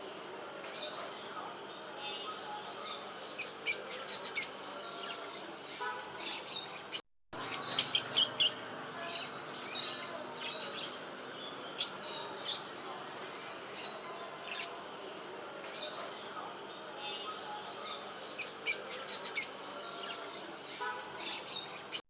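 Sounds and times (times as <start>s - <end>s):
cage birds chirping: 0.0s - 22.0s.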